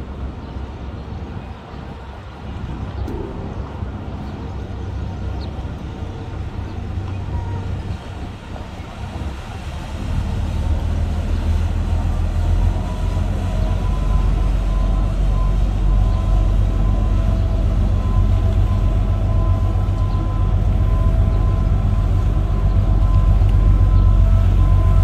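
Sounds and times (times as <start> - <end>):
ferry engines rumbling: 0.0 - 25.0.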